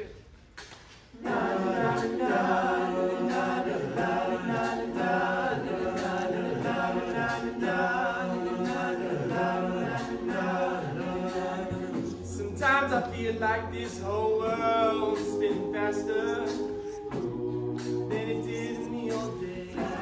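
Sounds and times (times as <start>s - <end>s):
choir singing a cappella: 1.1s - 20.0s.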